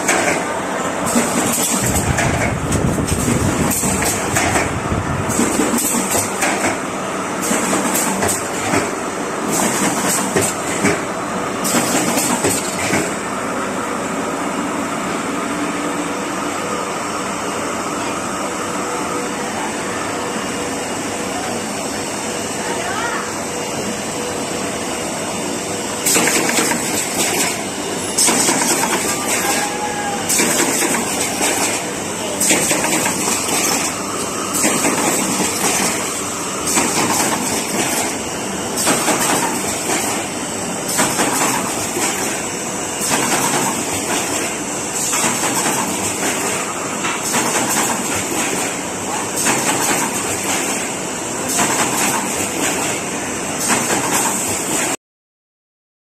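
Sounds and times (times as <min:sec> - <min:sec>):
machine running: 0:00.0 - 0:55.0.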